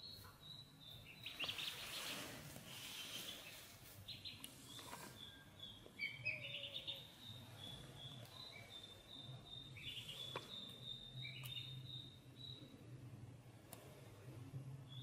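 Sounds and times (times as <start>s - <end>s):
ducklings peeping: 0.0s - 12.8s.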